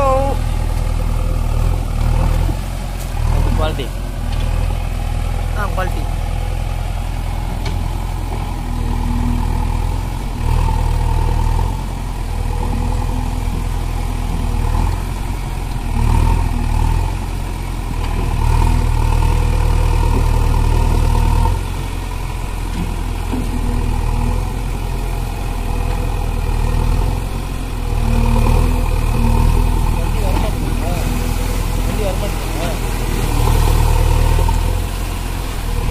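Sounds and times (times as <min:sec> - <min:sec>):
diesel engine revving: 0:00.0 - 0:35.9.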